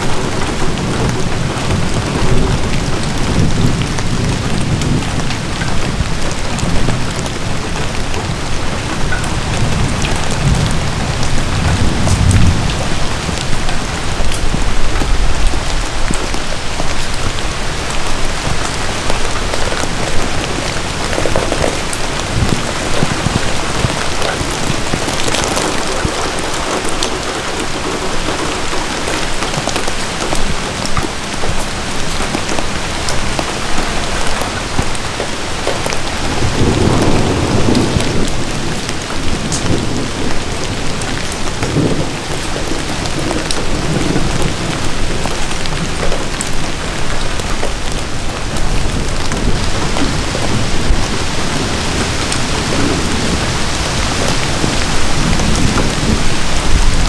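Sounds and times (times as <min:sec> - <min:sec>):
distant thunder rumble: 0:00.0 - 0:57.0
steady rain in forest: 0:00.0 - 0:57.0.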